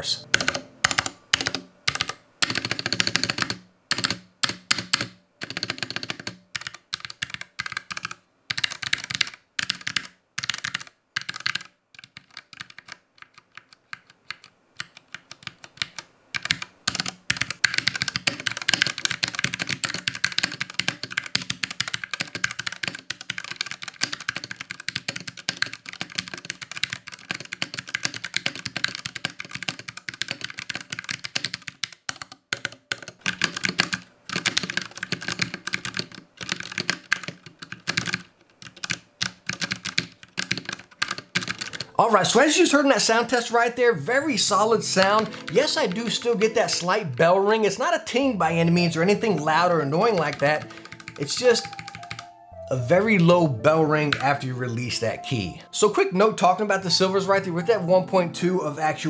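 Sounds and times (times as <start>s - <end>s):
mechanical keyboard typing: 0.3s - 43.5s, 44.4s - 46.9s, 47.6s - 52.3s, 53.6s - 54.5s.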